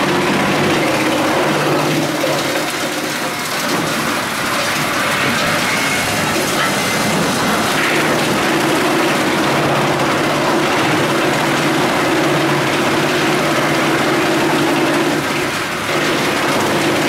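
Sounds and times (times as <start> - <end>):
wood chipper machine hum: 0.0 - 17.0
wood chips rattling down belt: 0.0 - 17.0.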